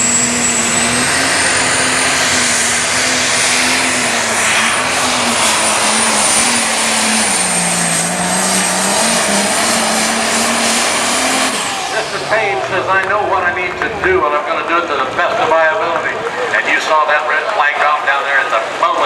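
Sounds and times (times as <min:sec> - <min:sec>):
tractor engine at full power: 0:00.0 - 0:19.0.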